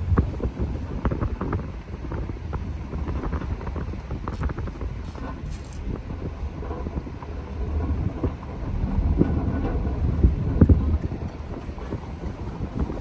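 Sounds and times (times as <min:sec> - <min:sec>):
car driving rumble: 0:00.0 - 0:13.0
wind buffeting microphone: 0:00.0 - 0:13.0.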